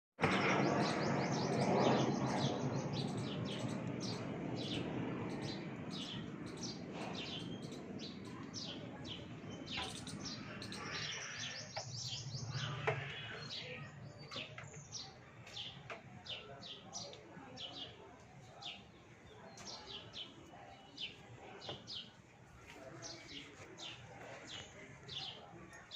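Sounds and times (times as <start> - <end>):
small birds chirping: 0.2 - 25.9.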